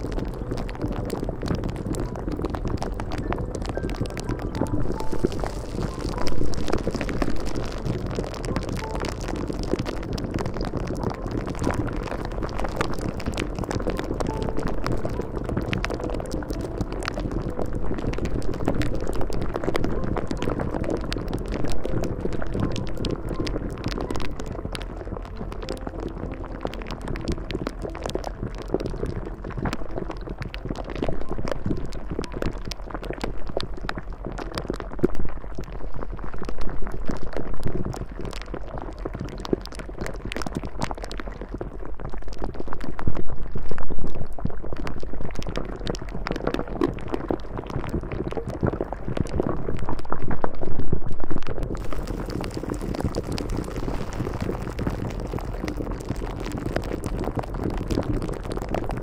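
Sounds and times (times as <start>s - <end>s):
water bubbling: 0.0s - 59.0s.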